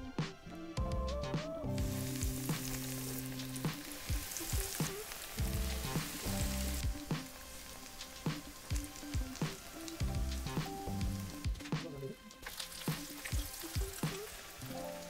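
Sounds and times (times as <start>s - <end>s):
food sizzling in hot oil: 1.8s - 11.7s, 12.3s - 15.0s.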